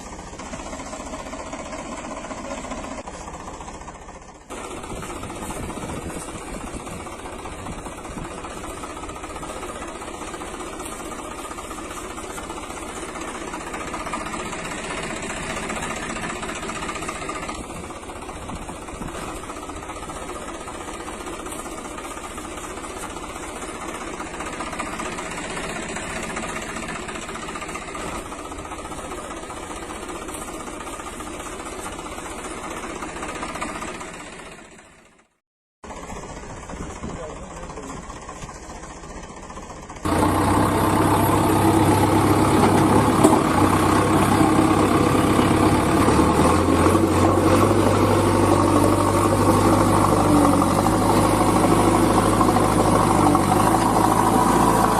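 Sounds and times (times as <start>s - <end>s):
small engine running with rattle: 0.0s - 54.9s.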